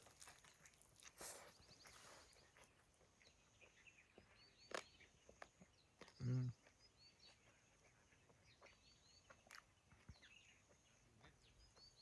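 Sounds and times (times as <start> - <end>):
soft chewing: 0.0 - 12.0
faint bird chirps: 1.2 - 12.0.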